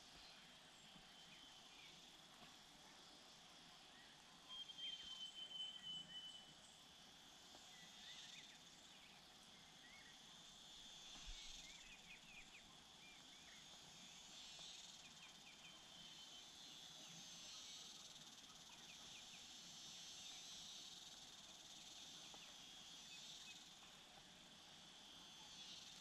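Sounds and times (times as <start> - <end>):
high insect trill: 0.0 - 26.0
insects droning: 0.0 - 26.0.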